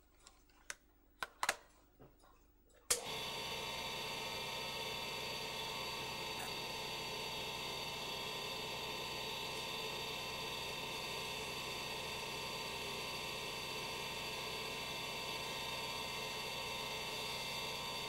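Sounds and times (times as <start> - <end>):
lathe motor humming: 3.0 - 18.0.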